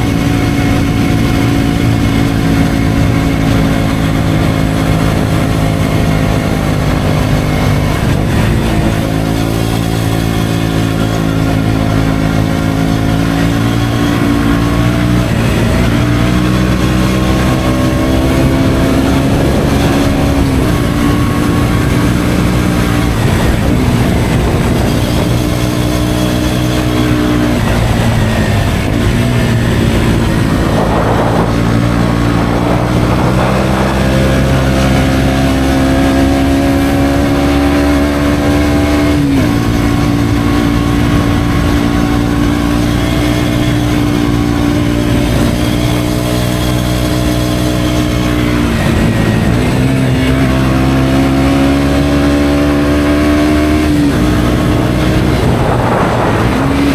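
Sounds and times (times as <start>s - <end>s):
motorcycle engine pulling: 0.0s - 56.9s.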